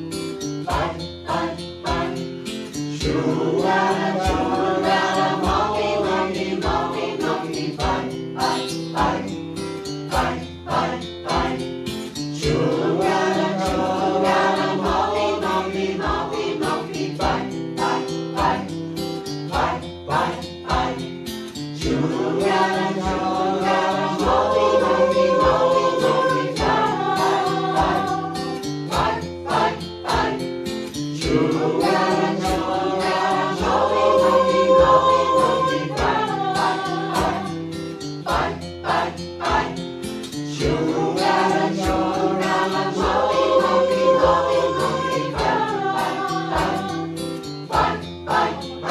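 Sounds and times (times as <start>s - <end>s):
instrumental accompaniment with beat: 0.2s - 48.9s
choir singing: 0.6s - 48.9s.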